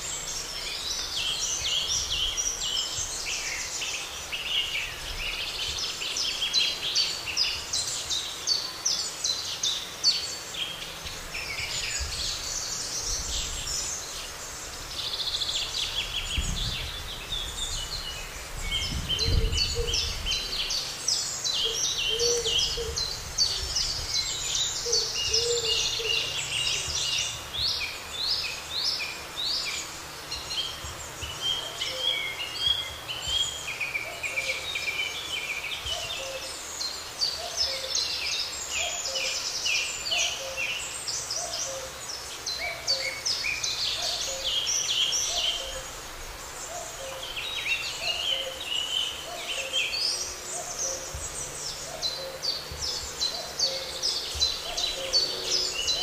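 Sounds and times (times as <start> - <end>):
songbirds chorus: 0.0 - 56.0.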